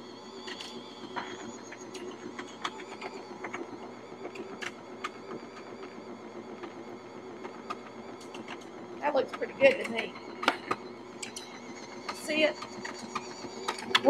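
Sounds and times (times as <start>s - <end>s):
stand mixer motor hum: 0.0s - 14.0s.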